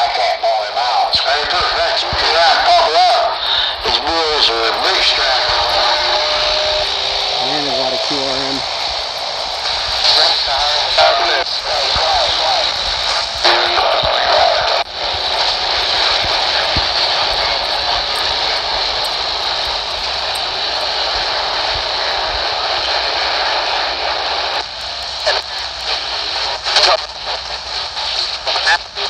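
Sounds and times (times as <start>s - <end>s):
radio crackles and bursts: 0.0s - 29.0s
radio static hiss: 0.0s - 29.0s.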